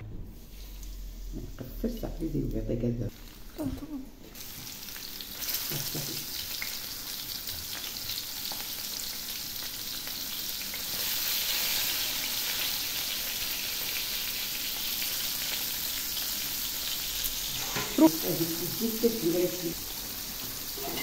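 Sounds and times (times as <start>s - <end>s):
fish sizzling in hot oil: 3.1s - 3.6s, 4.2s - 21.0s.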